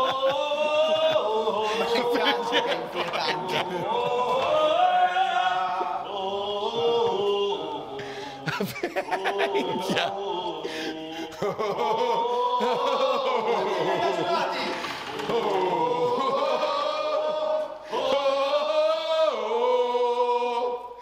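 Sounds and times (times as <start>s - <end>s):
voices singing together: 0.0s - 21.0s.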